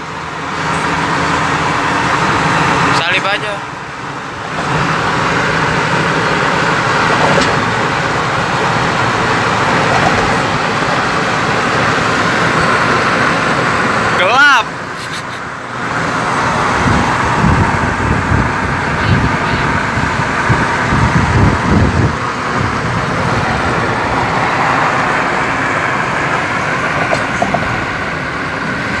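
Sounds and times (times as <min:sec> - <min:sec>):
road and wind noise inside car: 0:00.0 - 0:29.0.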